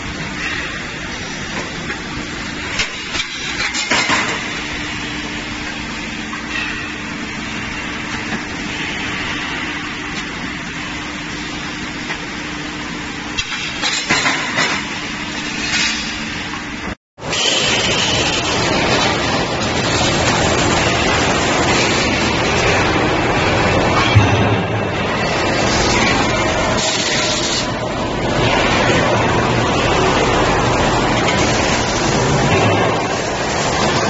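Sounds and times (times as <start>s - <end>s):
production-line machinery humming: 0.0s - 34.0s.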